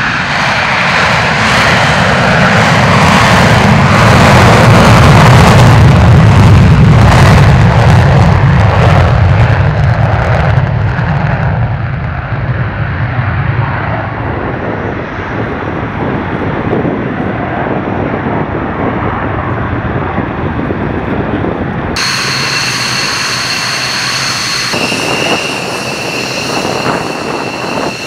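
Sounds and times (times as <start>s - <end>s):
jet engine afterburner roar: 0.0s - 28.0s.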